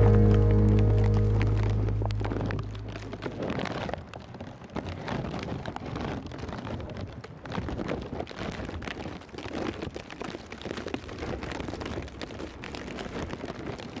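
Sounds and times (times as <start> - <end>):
irregular crackles: 0.0 - 14.0.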